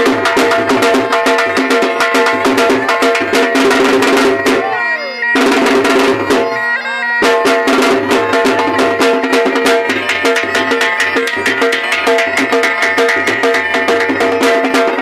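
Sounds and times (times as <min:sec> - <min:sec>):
dhol drumming: 0:00.0 - 0:15.0
reed pipe melody over drone: 0:01.1 - 0:14.5.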